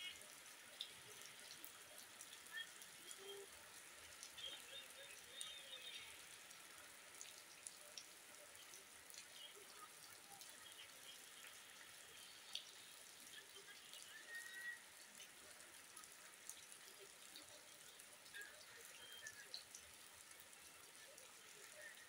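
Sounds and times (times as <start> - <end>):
drips pattering: 0.0 - 22.0
light rain falling: 0.0 - 22.0.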